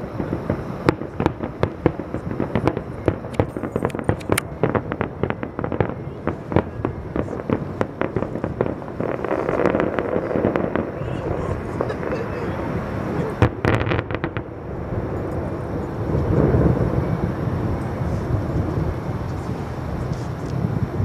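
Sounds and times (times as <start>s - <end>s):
fireworks crackling: 0.0s - 21.0s
low rumble: 0.0s - 21.0s.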